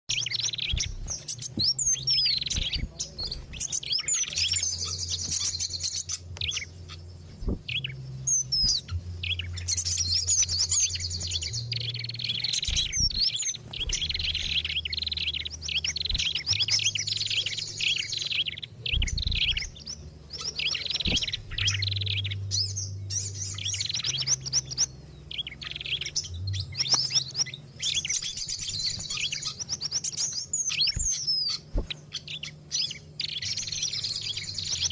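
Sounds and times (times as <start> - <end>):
small songbirds chirping and trilling: 0.0 - 34.9
low hum: 0.1 - 34.9.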